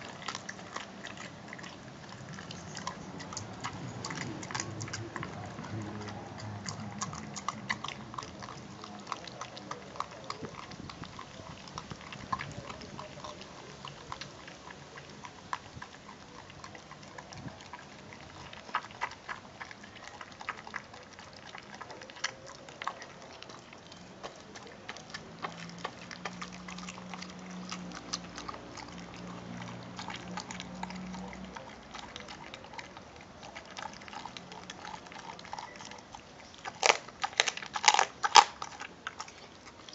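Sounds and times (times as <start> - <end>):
dog chewing bone: 0.0 - 39.9.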